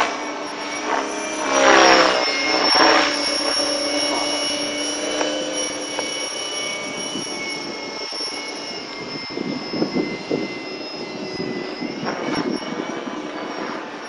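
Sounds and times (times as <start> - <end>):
rc helicopter motor whine: 0.0 - 14.0
rotor blades rushing: 0.0 - 14.0.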